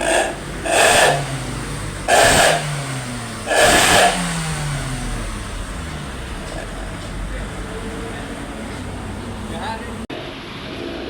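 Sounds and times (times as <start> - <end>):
car engine revving and idling: 0.0 - 10.1.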